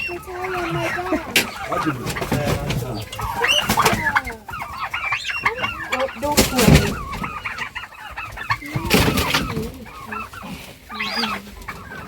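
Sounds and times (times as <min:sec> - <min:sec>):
poultry clucking and squawking: 0:00.0 - 0:12.0.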